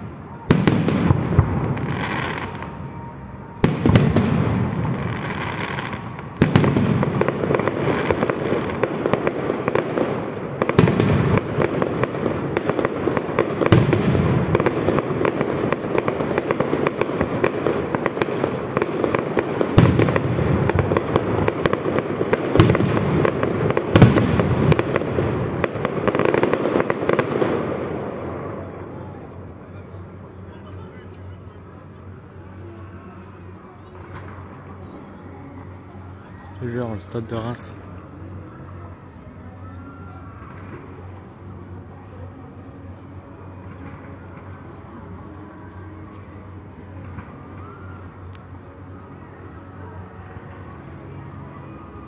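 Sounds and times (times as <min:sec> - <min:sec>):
fireworks crackling: 0:00.0 - 0:52.0.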